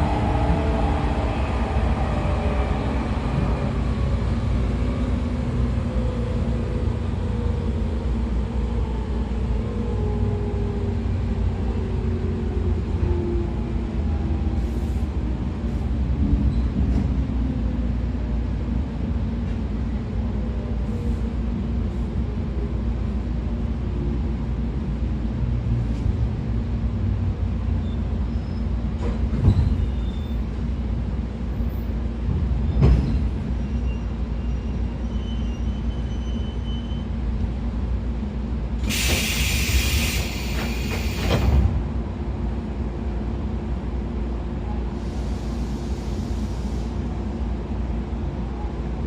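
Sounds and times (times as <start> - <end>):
train interior low rumble: 0.0 - 49.0.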